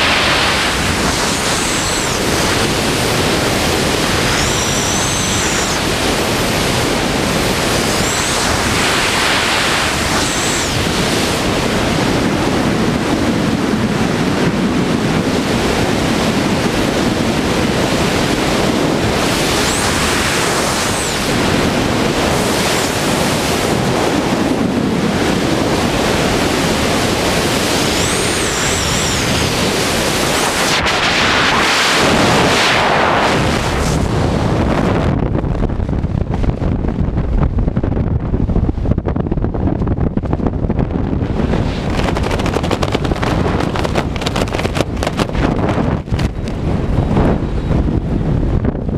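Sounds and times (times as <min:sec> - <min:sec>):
freefall wind rushing: 0:00.0 - 0:48.9.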